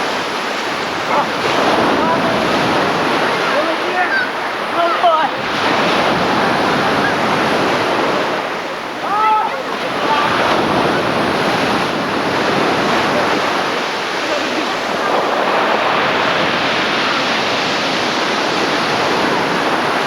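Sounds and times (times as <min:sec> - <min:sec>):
sea waves surf: 0:00.0 - 0:20.0.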